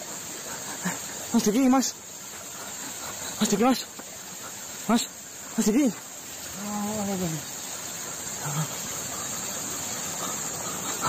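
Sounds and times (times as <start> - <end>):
insects chirring: 0.0 - 11.0
rushing water: 0.0 - 11.0.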